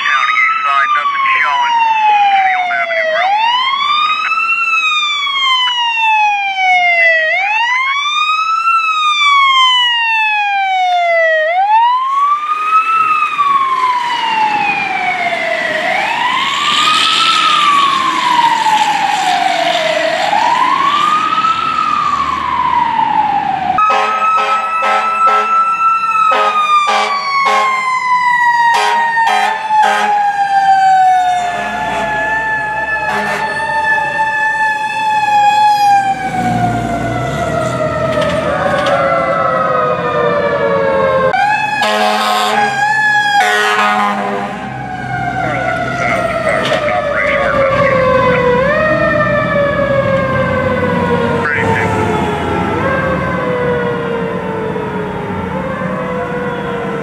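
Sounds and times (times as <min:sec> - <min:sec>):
fire engine passing: 0:00.0 - 0:57.0
fire engine siren wailing: 0:00.0 - 0:57.0
rapid pulsing siren blasts: 0:00.0 - 0:57.0.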